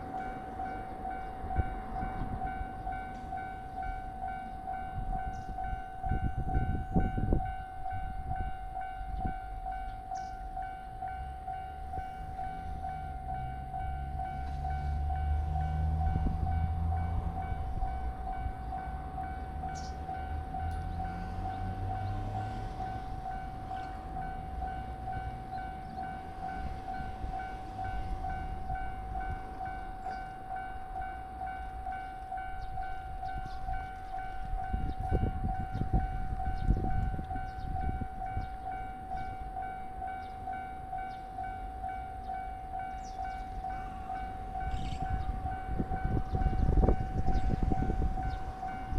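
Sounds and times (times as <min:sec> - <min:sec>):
electric train rumbling past: 0:00.0 - 0:48.9.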